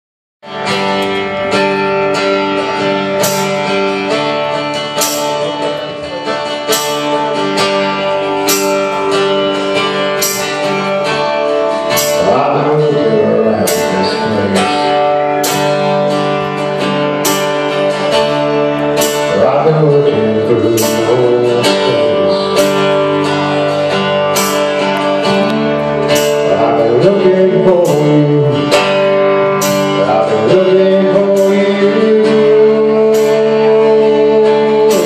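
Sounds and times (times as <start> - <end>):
live rock band playing: 0.4 - 35.0
person singing: 0.6 - 35.0.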